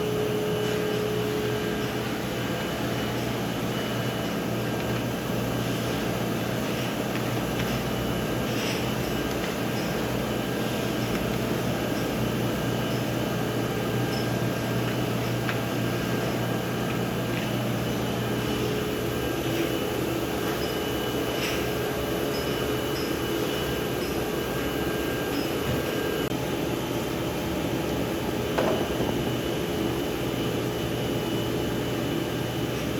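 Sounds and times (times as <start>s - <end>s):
factory machinery humming: 0.0s - 32.9s.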